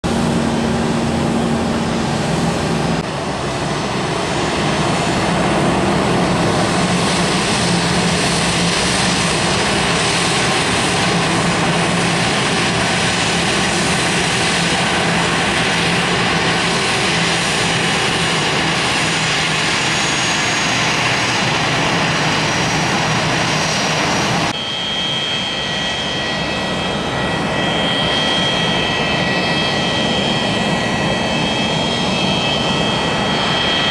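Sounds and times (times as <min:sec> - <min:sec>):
high jet engine whine: 0:00.0 - 0:33.9
jet engines roaring: 0:00.0 - 0:33.9.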